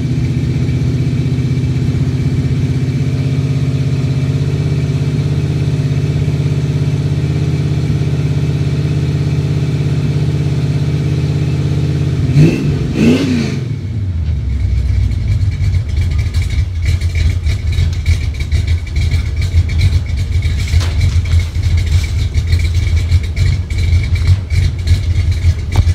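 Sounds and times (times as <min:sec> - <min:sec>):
car engine revving and idling: 0:00.0 - 0:25.9.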